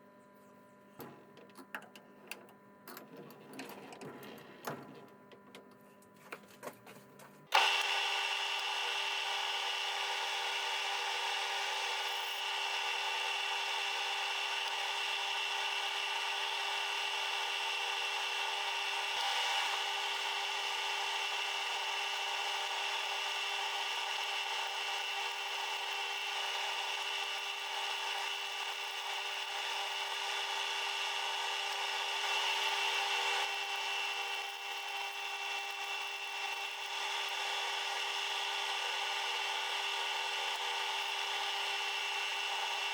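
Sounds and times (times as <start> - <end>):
machine tool humming: 7.5 - 42.9.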